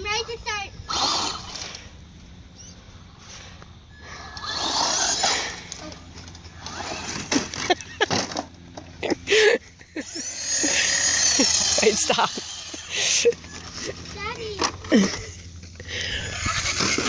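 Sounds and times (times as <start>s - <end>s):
toy truck motor and tyres: 0.8s - 17.0s.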